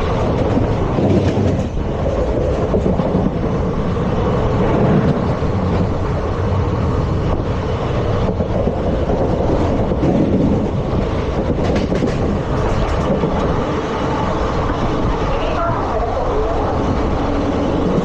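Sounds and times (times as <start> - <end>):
rumble of wheels on rail: 0.0 - 18.0.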